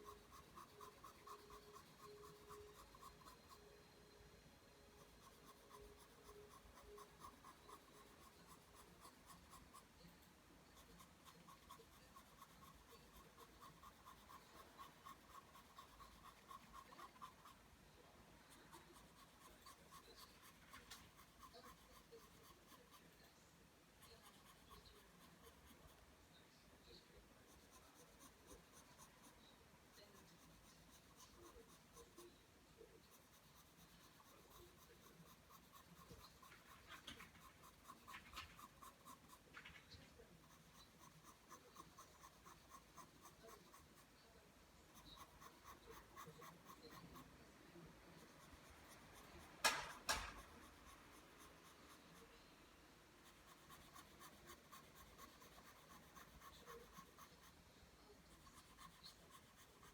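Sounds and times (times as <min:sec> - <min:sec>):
pencil scratching on paper: 0:00.0 - 0:59.9.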